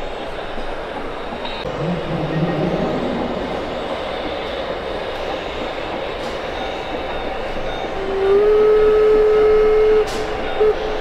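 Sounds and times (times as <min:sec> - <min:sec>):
loud steady held tone: 0:01.4 - 0:11.0.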